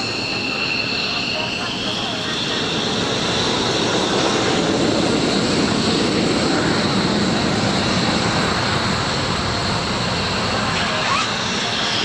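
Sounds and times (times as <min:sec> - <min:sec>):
aircraft engines whining: 0:00.0 - 0:12.0.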